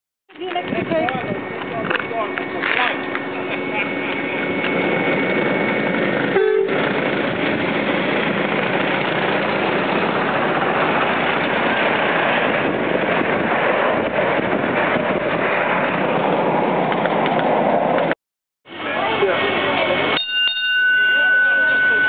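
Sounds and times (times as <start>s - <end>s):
miniature train rumbling: 0.3s - 18.1s, 18.7s - 22.0s.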